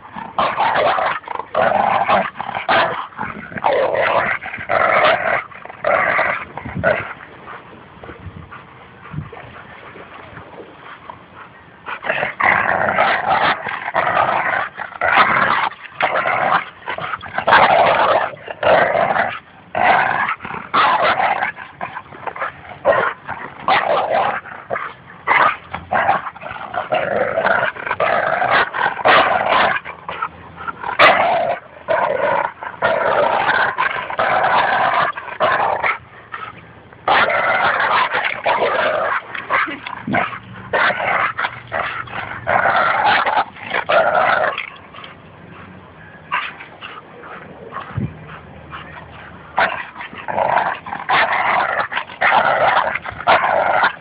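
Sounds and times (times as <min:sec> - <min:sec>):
dog play growling: 0:00.0 - 0:54.0.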